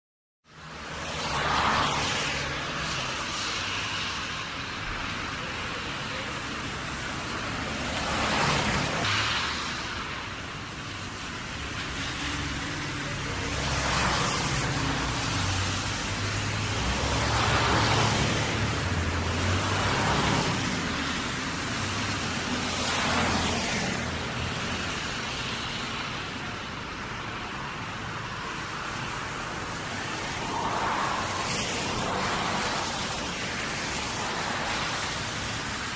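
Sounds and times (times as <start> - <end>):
traffic noise: 0.4 - 35.9
car tyres hissing through water: 0.6 - 35.9.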